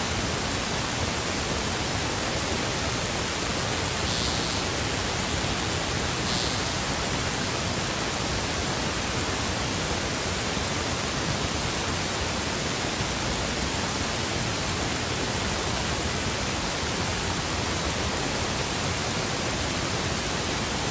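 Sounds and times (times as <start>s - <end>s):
loud steady static hiss: 0.0s - 20.9s.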